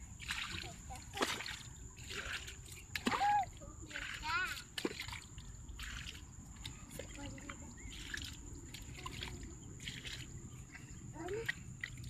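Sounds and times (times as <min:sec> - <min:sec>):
wet mud splashes and squelches: 0:00.0 - 0:12.0.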